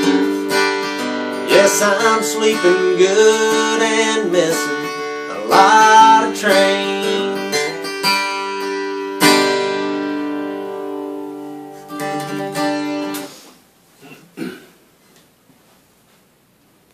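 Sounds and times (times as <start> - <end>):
acoustic guitar strumming: 0.0 - 14.6.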